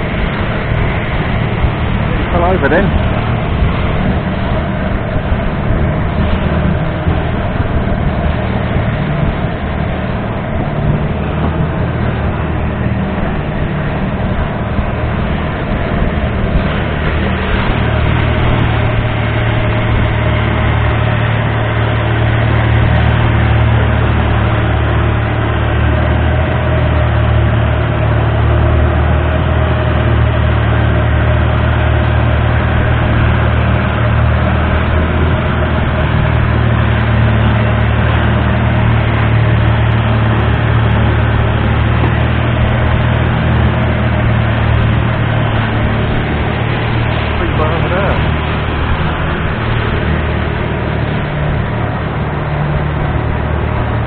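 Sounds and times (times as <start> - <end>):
boat diesel engine drone: 0.0 - 54.0
water rushing past hull: 0.0 - 54.0.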